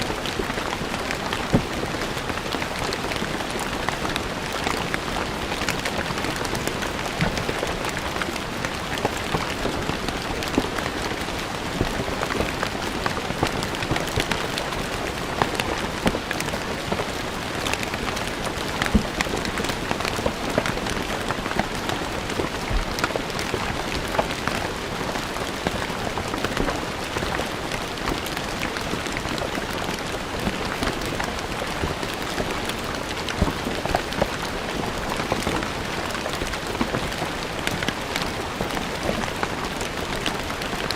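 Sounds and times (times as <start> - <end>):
rain falling on stone: 0.0 - 40.9.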